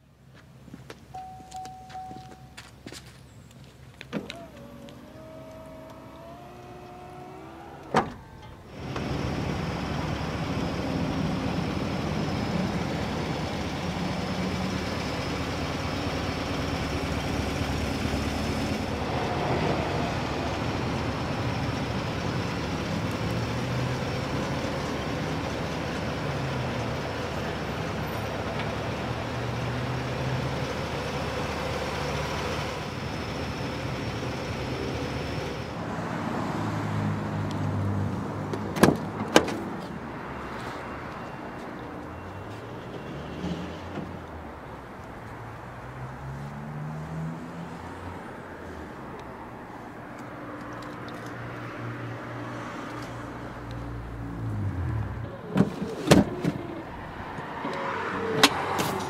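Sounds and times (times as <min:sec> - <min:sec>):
motor vehicle hum: 0:00.2 - 0:59.0.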